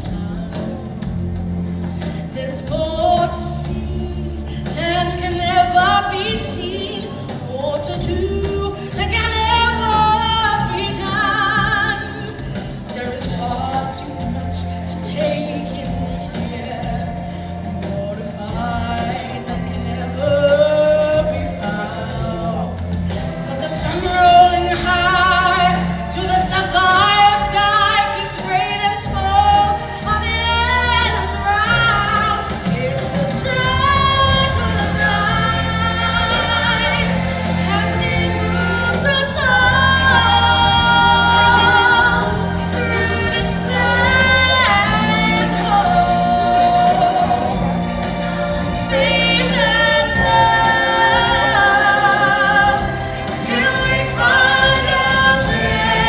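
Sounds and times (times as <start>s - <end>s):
choir singing with vibrato: 0.0s - 56.0s
instrumental backing: 0.0s - 56.0s.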